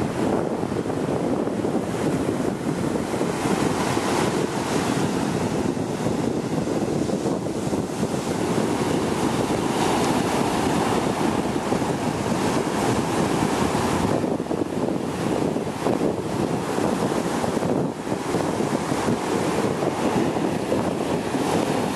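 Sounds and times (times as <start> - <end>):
surf breaking on sandy beach: 0.0 - 21.9
wind buffeting microphone: 0.0 - 21.9.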